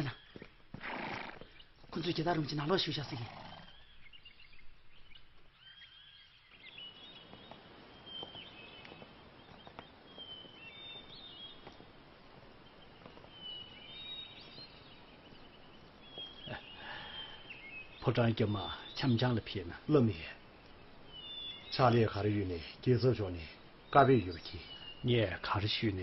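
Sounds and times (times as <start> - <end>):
small birds chirping: 0.0 - 26.0
steady background hiss: 0.0 - 26.0.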